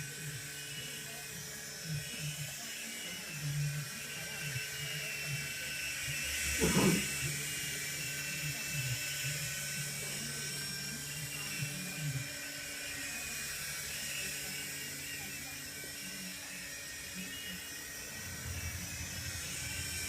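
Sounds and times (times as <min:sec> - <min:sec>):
helicopter whine and drone: 0:00.0 - 0:20.0.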